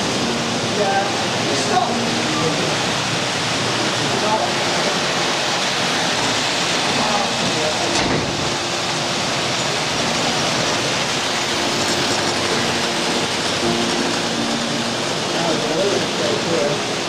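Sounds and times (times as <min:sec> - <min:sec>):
model trains running on track: 0:00.0 - 0:17.0
faint voices: 0:00.2 - 0:17.0.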